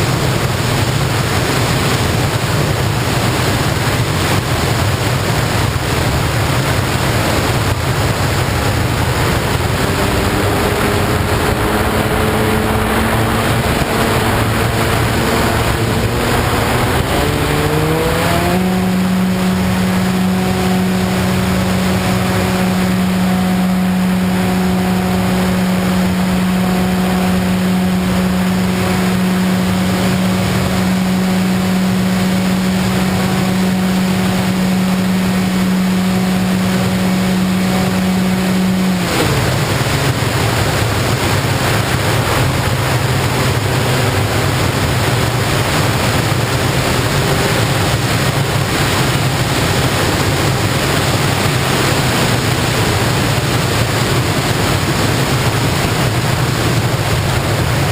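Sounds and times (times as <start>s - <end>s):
propeller motor humming: 0.0s - 57.9s
wind rushing: 0.0s - 57.9s.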